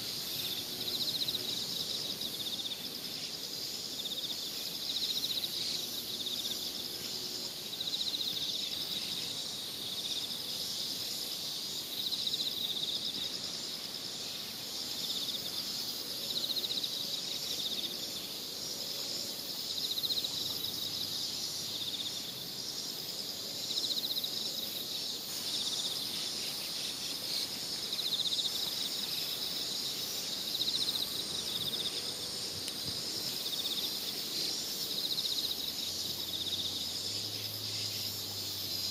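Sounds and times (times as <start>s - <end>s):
insects chirring: 0.0s - 38.9s
pulsing insect call: 0.0s - 38.9s.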